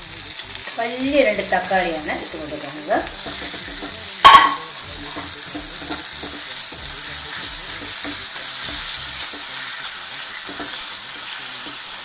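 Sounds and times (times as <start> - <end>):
food sizzling in a wok: 0.0 - 12.0
spatula stirring and scraping: 1.2 - 12.0.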